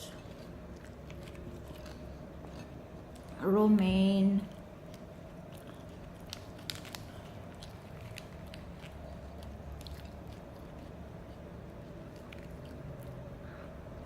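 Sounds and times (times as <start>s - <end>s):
person chewing crunchy vegetables: 0.0s - 3.4s, 4.4s - 13.4s
steady low hum: 0.0s - 14.0s.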